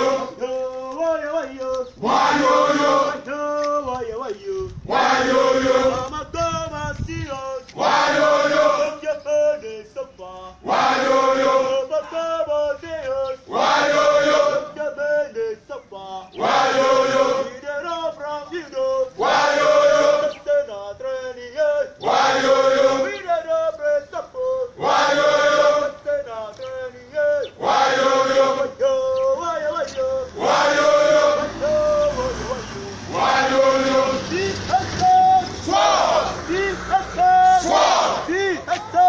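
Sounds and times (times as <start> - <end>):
men chanting call and response: 0.0 - 39.0.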